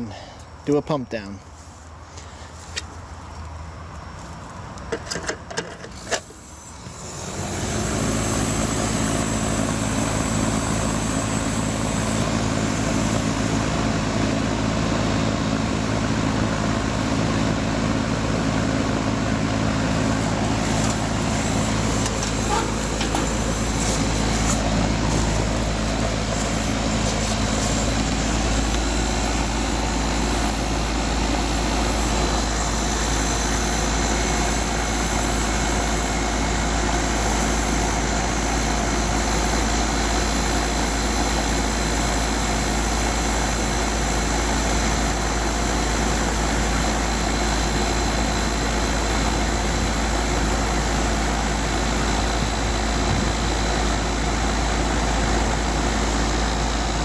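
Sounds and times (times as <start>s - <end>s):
air conditioning unit running: 0.0s - 4.1s, 4.8s - 57.0s.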